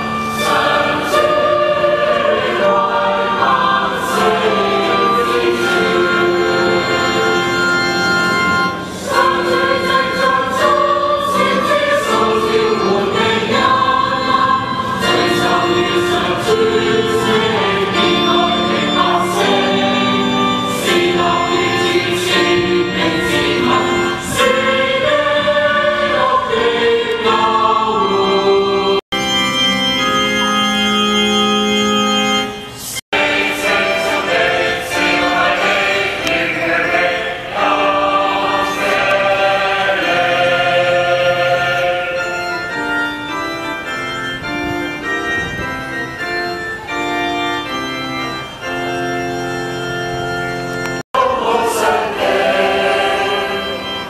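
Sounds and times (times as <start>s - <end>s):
choir singing a hymn: 0.0s - 29.4s, 30.0s - 54.0s
organ chords: 0.0s - 54.0s.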